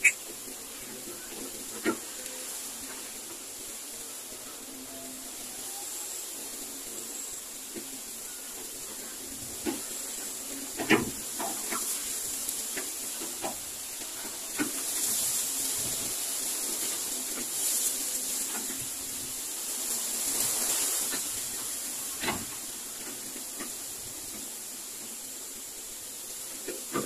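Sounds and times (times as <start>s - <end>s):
high-pitched outdoor hiss: 0.0s - 27.0s.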